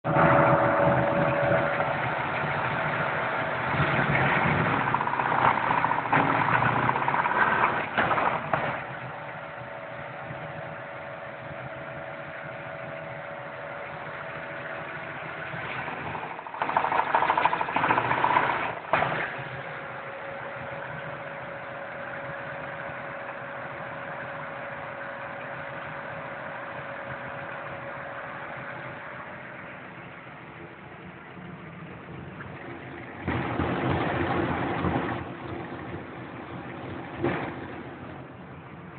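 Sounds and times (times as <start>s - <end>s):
engine revving and idling: 0.0s - 38.9s
loud engine tick: 0.0s - 38.9s.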